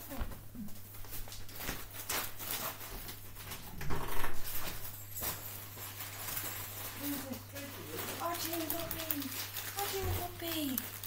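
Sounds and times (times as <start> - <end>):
low electrical hum: 0.0 - 11.0
rustling and knocking objects: 0.0 - 11.0.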